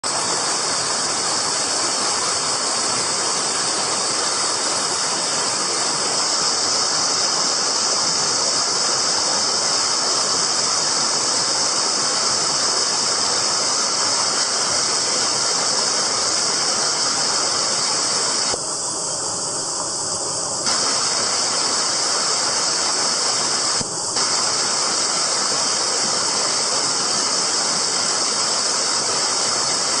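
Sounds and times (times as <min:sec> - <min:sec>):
mountain stream rushing: 0:00.0 - 0:30.0.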